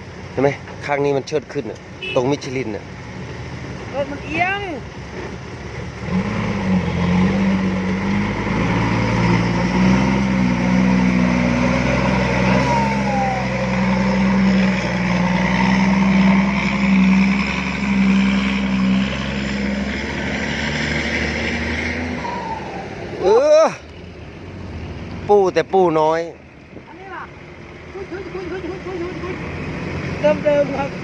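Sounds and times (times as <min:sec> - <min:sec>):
diesel truck engine under load: 0:02.6 - 0:31.0.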